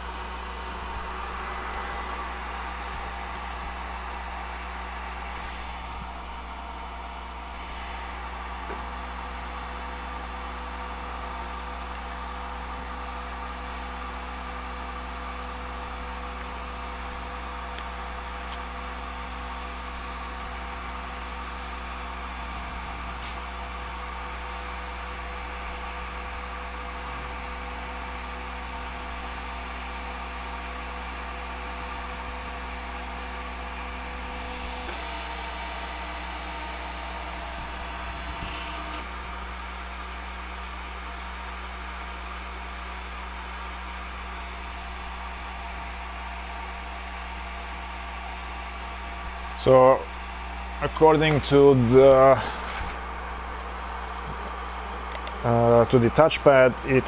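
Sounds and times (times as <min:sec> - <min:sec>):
laser engraver hum and fan: 0:00.0 - 0:57.0.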